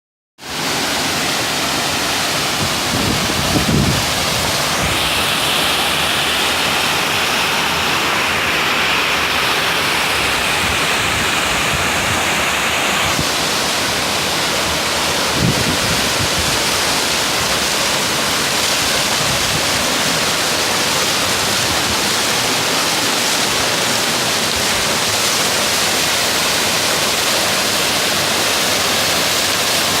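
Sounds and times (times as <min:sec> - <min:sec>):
waterfall rushing: 0:00.4 - 0:30.0.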